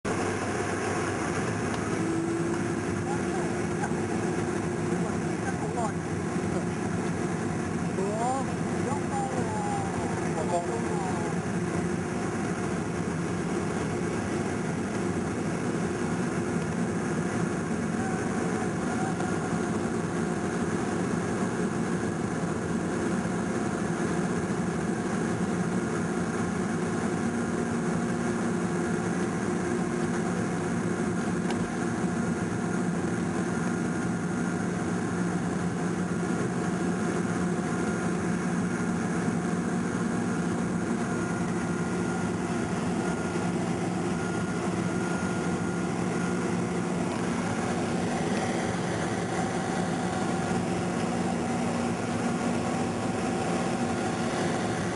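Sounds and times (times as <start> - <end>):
jet engines droning in cabin: 0.1 - 54.9.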